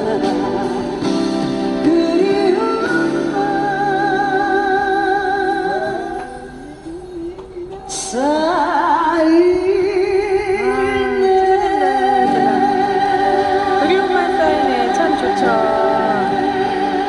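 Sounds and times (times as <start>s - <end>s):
keyboard accompaniment: 0.0s - 17.0s
person singing with vibrato: 0.0s - 17.0s.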